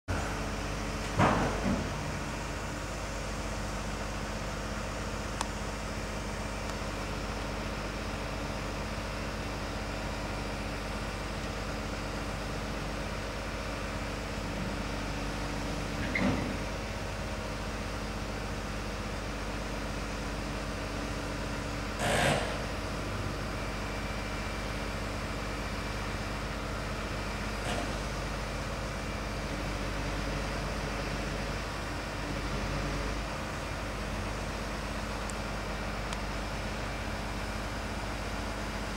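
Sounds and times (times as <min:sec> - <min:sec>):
truck engine humming: 0:01.8 - 0:38.9.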